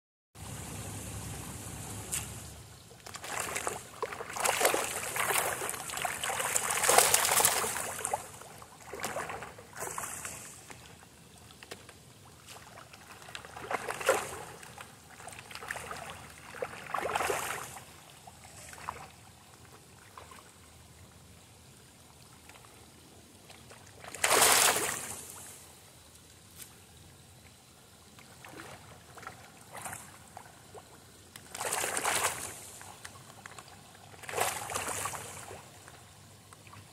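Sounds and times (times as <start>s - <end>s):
fish splashing at pond surface: 0.6s - 20.7s, 22.3s - 25.8s, 28.1s - 36.9s.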